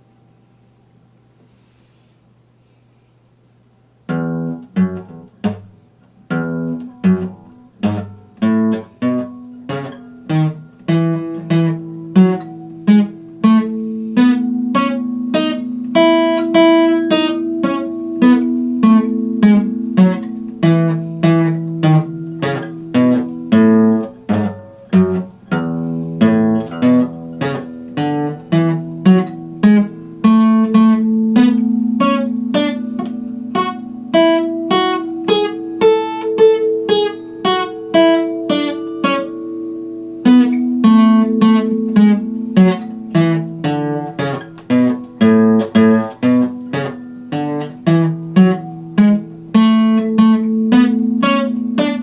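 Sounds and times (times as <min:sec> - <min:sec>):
faint low hum: 0:00.0 - 0:52.0
acoustic guitar strumming chords: 0:04.1 - 0:52.0.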